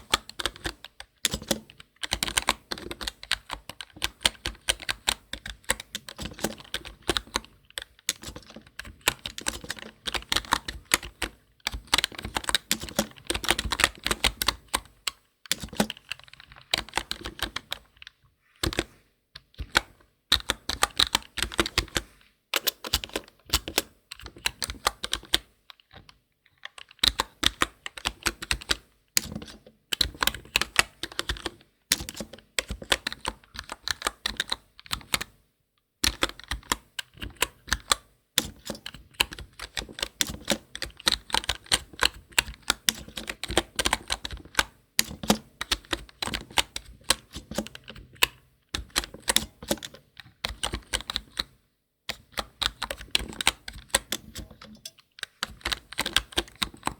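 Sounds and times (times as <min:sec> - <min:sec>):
computer keyboard typing: 0:00.0 - 0:35.4, 0:36.0 - 0:56.9.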